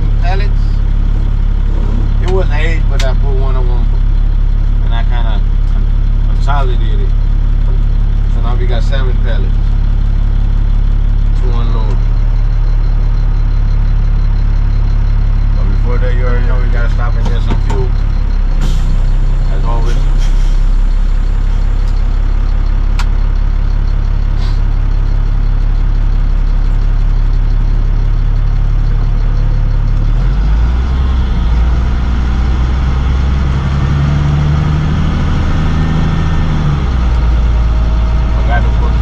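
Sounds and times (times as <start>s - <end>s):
truck engine: 0.0s - 39.0s.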